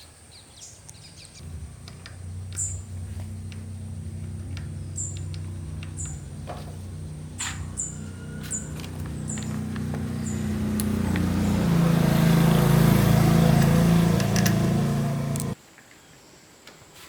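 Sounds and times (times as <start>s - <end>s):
small engine running: 1.4s - 15.6s.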